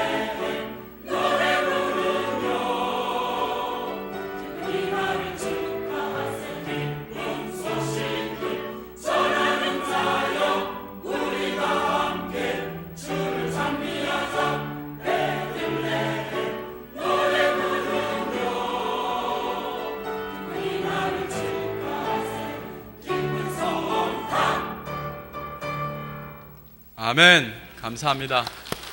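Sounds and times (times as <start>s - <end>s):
choir singing in harmony: 0.0s - 26.4s.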